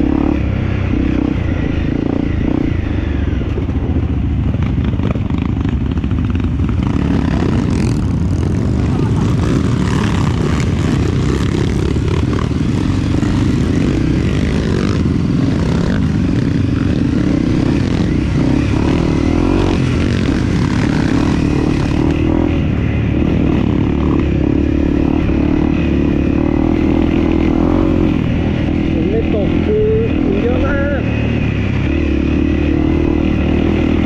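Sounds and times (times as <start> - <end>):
dirt bike engine running: 0.0 - 34.0
noisy rush: 0.0 - 34.0.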